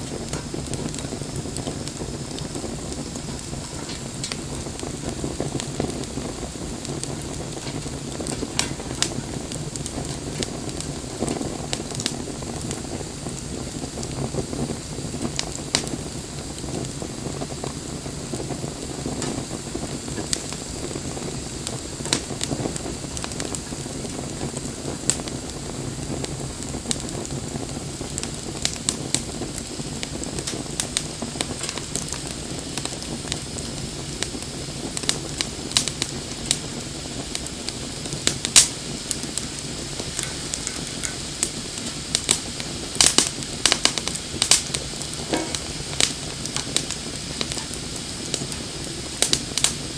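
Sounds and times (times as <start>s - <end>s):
fire crackling and popping: 0.0s - 49.9s
fire low rush: 0.0s - 49.9s.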